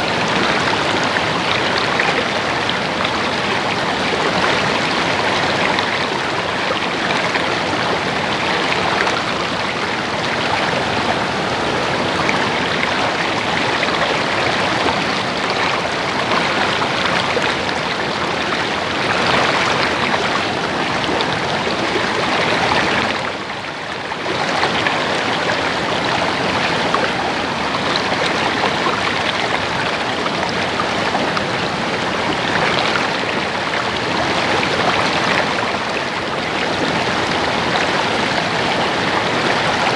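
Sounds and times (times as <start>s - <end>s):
stream water babbling over rocks: 0.0s - 39.9s.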